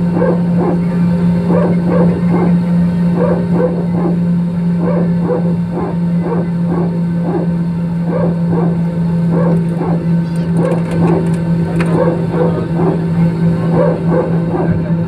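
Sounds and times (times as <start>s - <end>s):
jet engine hum: 0.0s - 15.0s.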